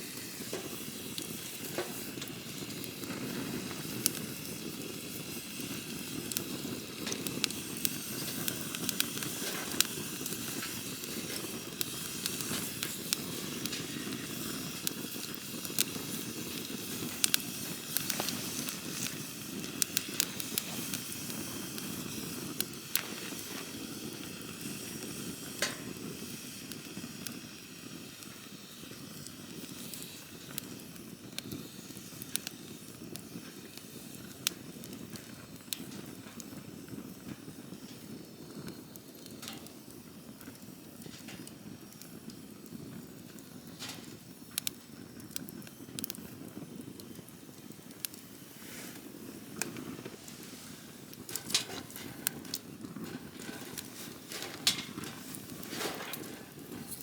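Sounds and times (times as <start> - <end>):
campfire flame rushing: 0.0 - 57.0
fire crackles and pops: 0.0 - 57.0.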